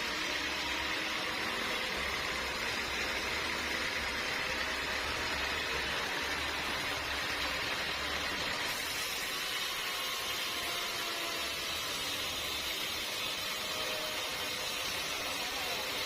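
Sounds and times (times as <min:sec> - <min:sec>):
sawmill machinery hissing: 0:00.0 - 0:16.0.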